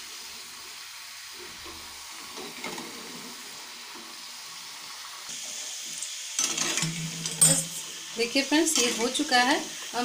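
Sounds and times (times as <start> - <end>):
deep-frying sizzle: 0.0 - 10.0.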